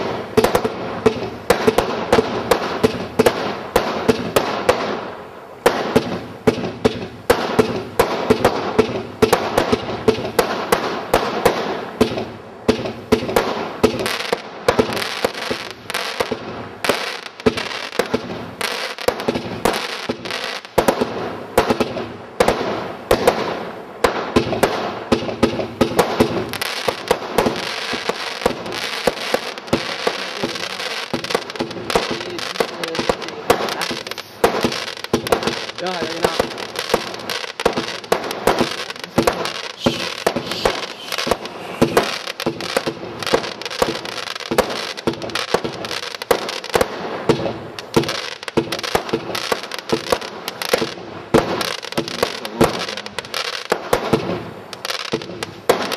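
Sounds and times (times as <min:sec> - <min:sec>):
firework crackle: 0:00.0 - 0:55.9
fireworks barrage exploding: 0:00.0 - 0:55.9.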